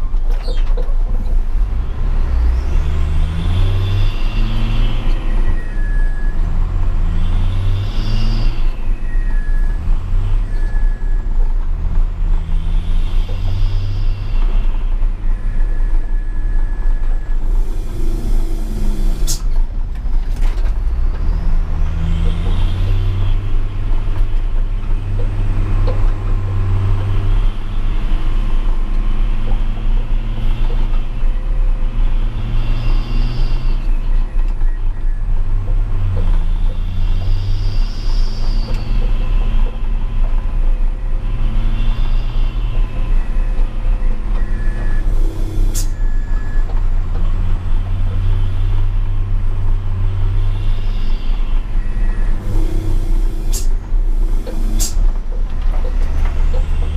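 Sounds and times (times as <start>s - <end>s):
truck diesel engine droning: 0.0s - 56.9s.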